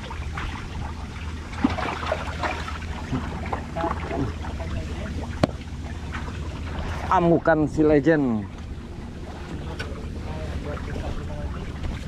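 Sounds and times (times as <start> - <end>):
steady low hum: 0.0 - 12.0
water lapping around boat: 0.0 - 12.0.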